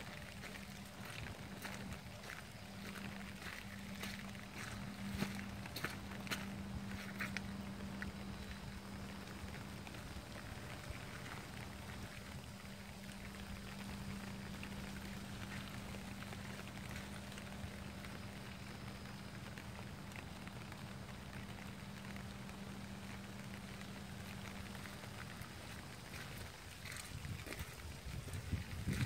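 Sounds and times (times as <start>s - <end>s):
rain falling on pavement: 0.0s - 29.0s
steady low hum: 0.0s - 29.0s.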